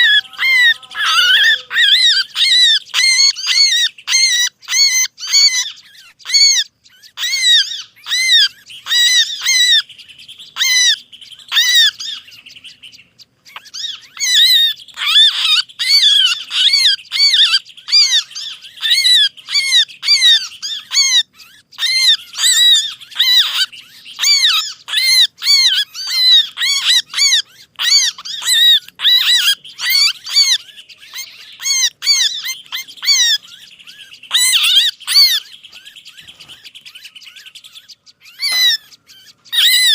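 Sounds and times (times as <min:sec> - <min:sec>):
high bird trill: 0:00.0 - 0:39.9
songbirds chirping sharply: 0:00.0 - 0:39.9.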